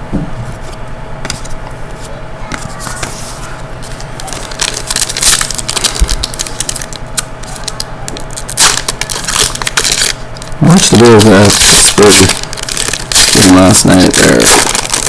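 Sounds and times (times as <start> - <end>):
crinkling of card pack wrappers: 1.3 - 15.0.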